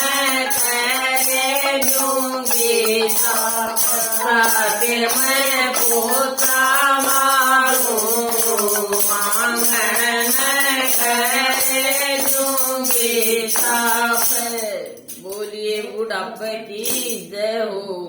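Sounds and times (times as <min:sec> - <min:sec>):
jingling hand percussion: 0:00.0 - 0:15.9, 0:16.8 - 0:17.3
person singing devotional song: 0:00.0 - 0:17.9.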